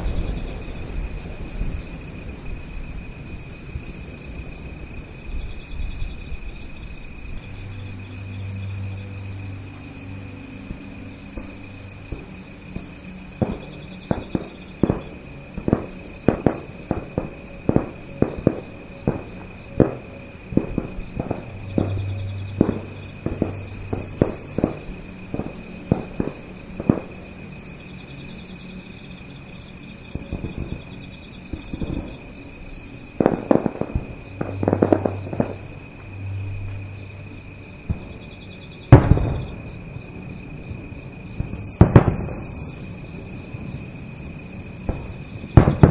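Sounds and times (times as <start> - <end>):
fireworks bursting with bangs: 0.0 - 7.6, 8.3 - 27.8, 30.1 - 36.8, 37.8 - 45.9.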